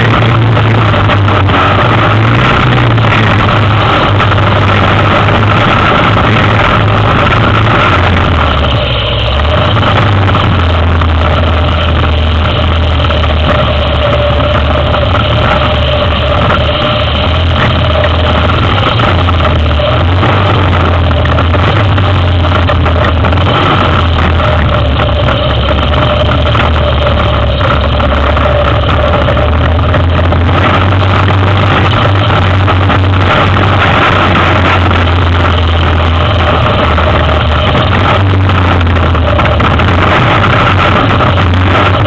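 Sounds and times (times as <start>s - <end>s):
atv engine running: 0.0s - 42.0s
water churning: 0.0s - 42.0s.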